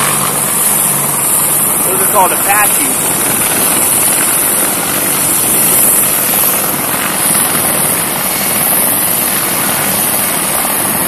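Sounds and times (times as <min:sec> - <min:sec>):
helicopters flying low overhead: 0:00.0 - 0:11.0.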